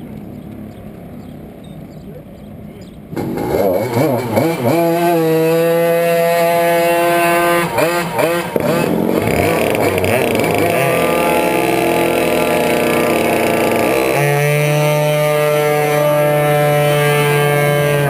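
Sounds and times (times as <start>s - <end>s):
kart engine idling with throttle blips: 0.0s - 18.0s.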